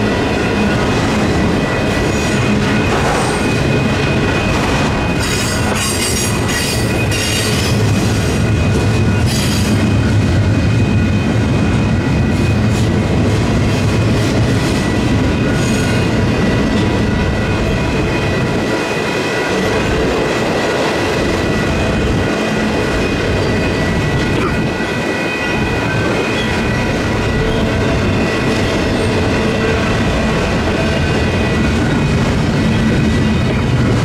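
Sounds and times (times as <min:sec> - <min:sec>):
crossing bells ringing: 0:00.0 - 0:34.0
freight train rumbling: 0:00.0 - 0:34.0.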